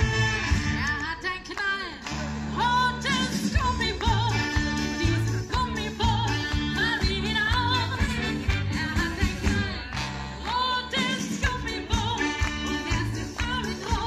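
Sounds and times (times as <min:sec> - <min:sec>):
live band playing upbeat song: 0:00.0 - 0:14.0
woman singing with vibrato: 0:00.5 - 0:14.0.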